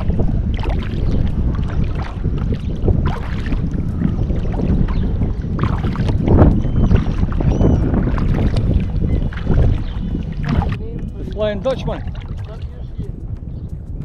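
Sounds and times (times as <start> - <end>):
paddle strokes splashing water: 0.0 - 12.7
wind rumble on microphone: 0.0 - 14.0.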